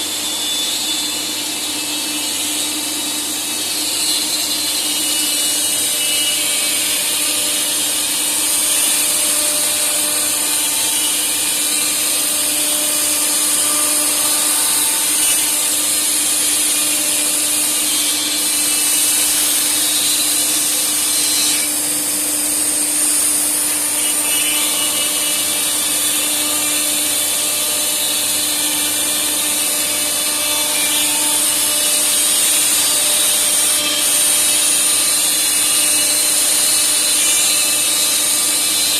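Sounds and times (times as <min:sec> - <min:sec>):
router spindle whine: 0:00.0 - 0:38.9
cutter cutting wood: 0:01.2 - 0:38.9.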